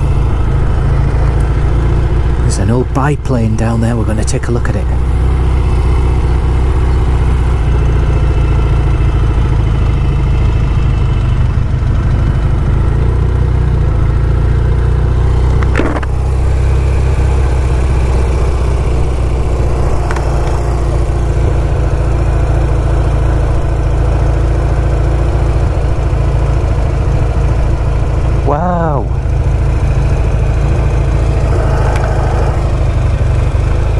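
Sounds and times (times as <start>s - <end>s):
motorcycle engine droning: 0.0s - 33.9s.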